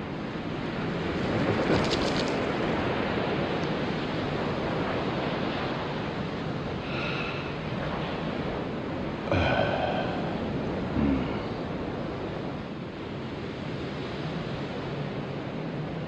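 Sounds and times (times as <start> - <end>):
waves washing on shore: 0.0 - 16.0.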